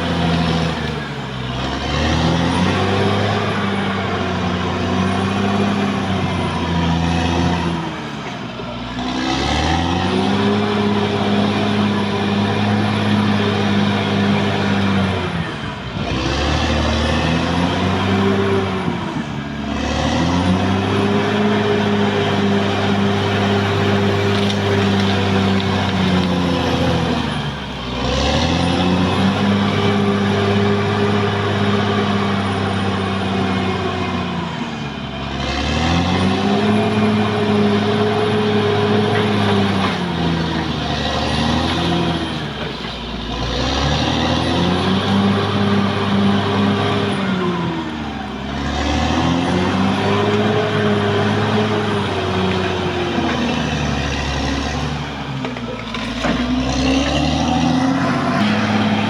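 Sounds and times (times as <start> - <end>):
bulldozer diesel engine working: 0.0 - 59.0.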